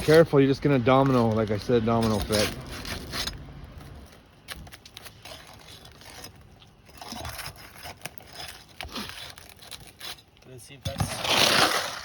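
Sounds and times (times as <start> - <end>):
shingles being pried scraping: 0.0 - 12.0.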